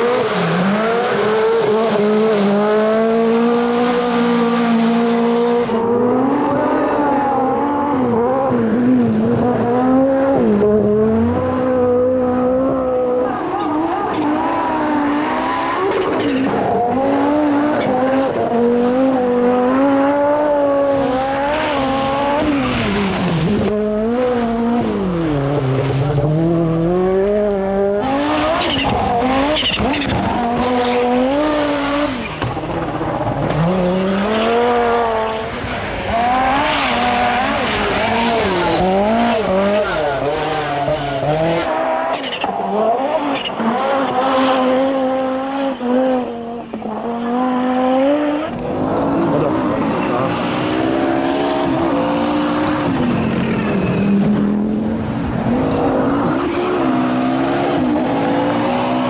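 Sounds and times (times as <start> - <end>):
rally car engines at full throttle: 0.0 - 59.0.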